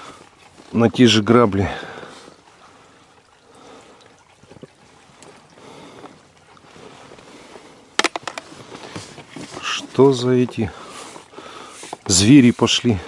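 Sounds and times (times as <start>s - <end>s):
faint water trickling: 0.0s - 13.0s.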